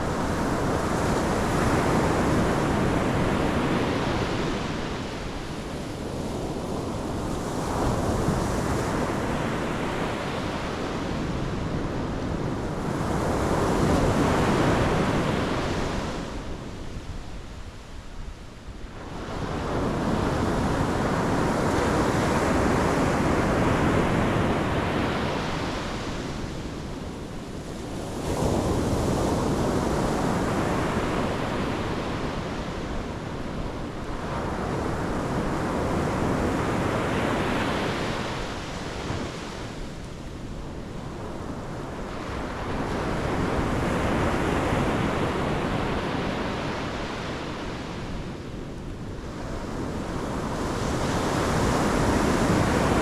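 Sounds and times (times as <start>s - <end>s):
ocean surf breaking on shore: 0.0s - 53.0s
wind rumble on microphone: 0.0s - 53.0s.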